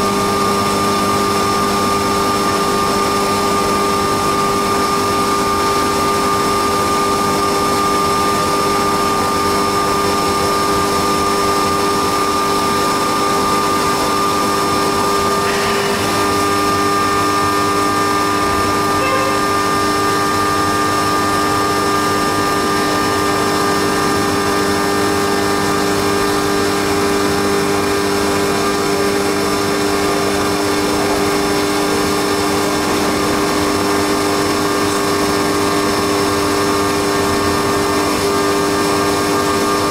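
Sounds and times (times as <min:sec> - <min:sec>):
lower machine tone: 0:00.0 - 0:32.8
milling machine whine: 0:00.0 - 0:39.9.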